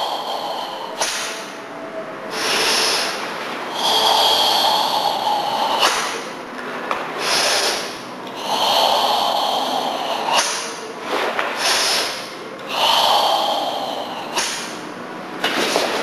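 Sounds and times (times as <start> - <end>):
forceful hissing breaths: 0.0 - 6.5, 7.2 - 16.0.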